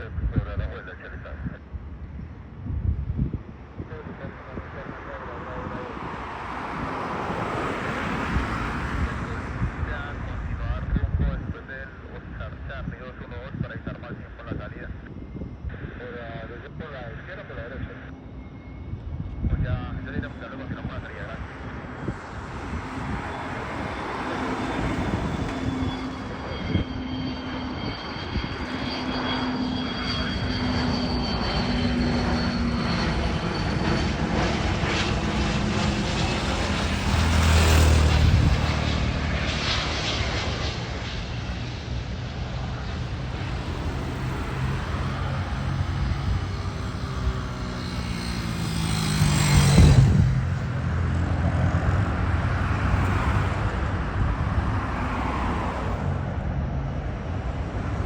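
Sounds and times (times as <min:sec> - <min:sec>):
jet engine rush and whine: 0:00.0 - 0:58.0.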